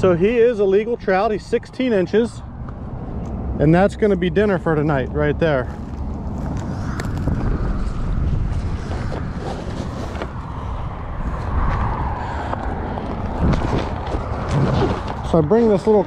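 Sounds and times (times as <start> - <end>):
wind buffeting microphone: 2.4 - 16.0.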